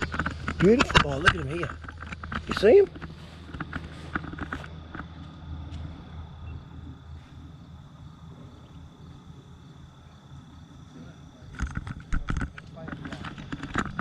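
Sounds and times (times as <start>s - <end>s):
high-pitched insect drone: 0.0s - 14.0s
low steady rumble: 0.0s - 14.0s.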